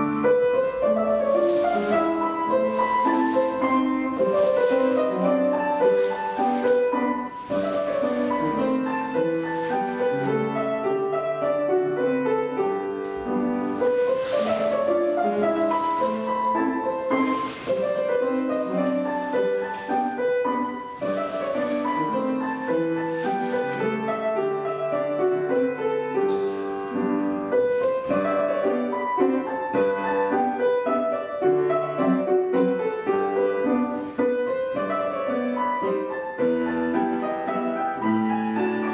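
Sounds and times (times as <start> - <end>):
classical piano piece: 0.0 - 38.9.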